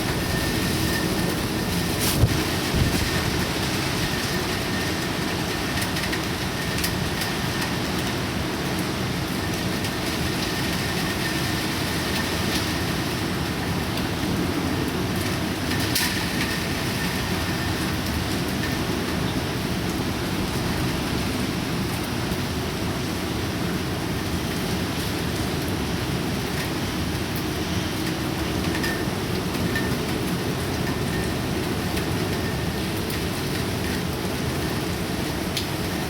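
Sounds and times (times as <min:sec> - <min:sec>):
heavy rain and wind rushing: 0:00.0 - 0:36.0.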